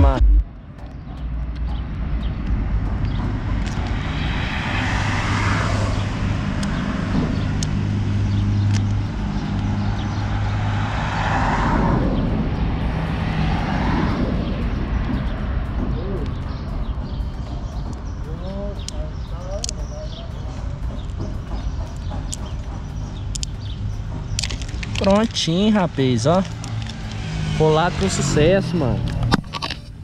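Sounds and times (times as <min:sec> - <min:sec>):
low engine drone: 0:00.0 - 0:30.0
traffic noise: 0:00.0 - 0:30.0.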